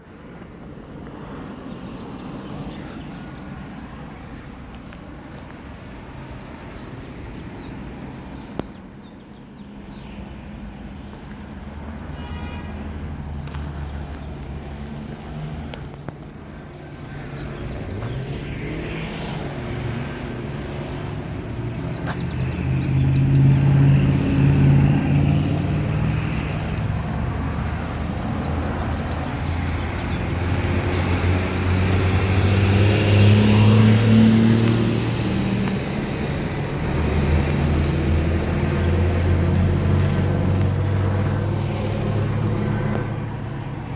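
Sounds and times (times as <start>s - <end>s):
cars driving past: 0.1s - 43.9s.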